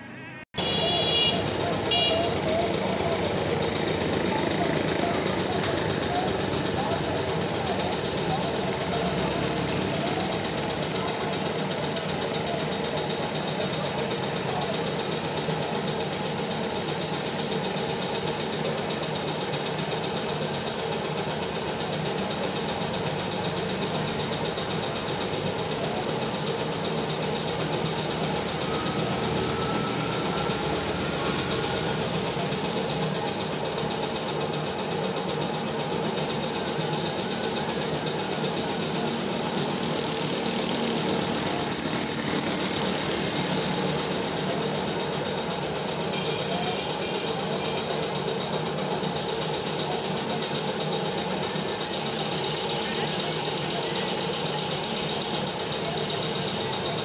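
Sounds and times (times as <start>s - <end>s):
air compressor running: 0.0s - 57.0s
paint spray gun hissing: 0.6s - 57.0s.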